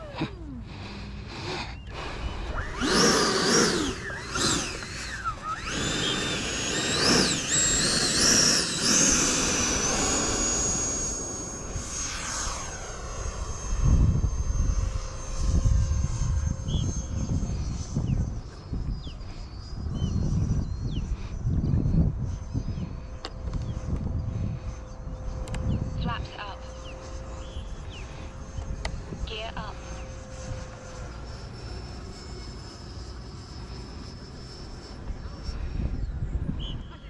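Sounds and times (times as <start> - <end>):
electric ducted-fan jet whining: 0.0 - 37.0.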